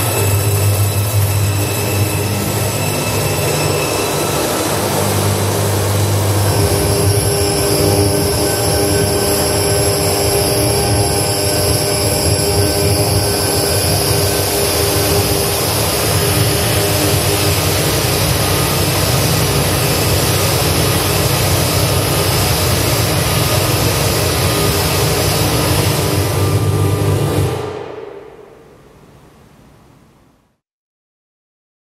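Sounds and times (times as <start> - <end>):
electronic noise rumble and hiss: 0.0 - 30.6.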